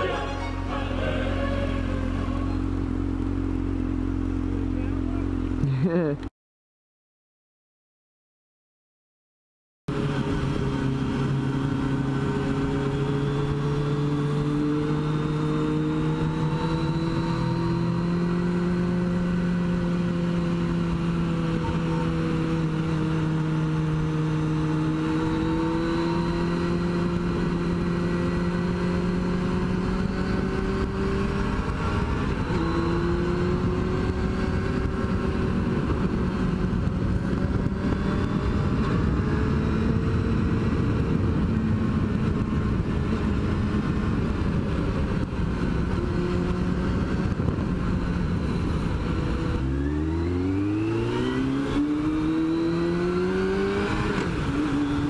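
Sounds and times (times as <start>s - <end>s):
motorcycle engine cruising: 0.0s - 6.3s, 9.9s - 55.0s
wind and road noise: 0.0s - 6.3s, 9.9s - 55.0s.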